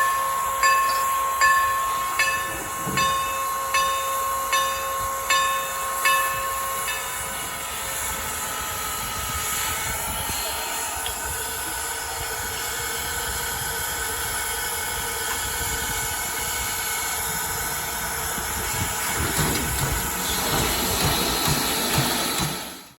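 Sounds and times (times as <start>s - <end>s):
steam hissing: 0.0s - 22.9s.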